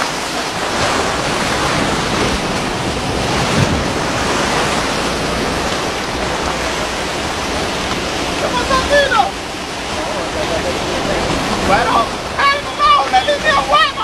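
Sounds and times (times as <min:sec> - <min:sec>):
churning sea water splashing: 0:00.0 - 0:14.0
wind on microphone: 0:00.0 - 0:14.0.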